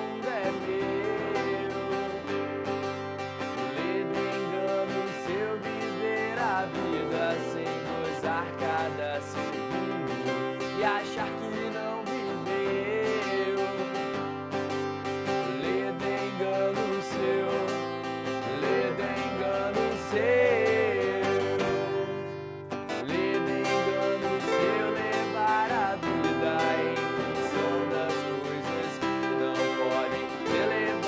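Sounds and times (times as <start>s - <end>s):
guitar chords and melody: 0.0s - 31.0s.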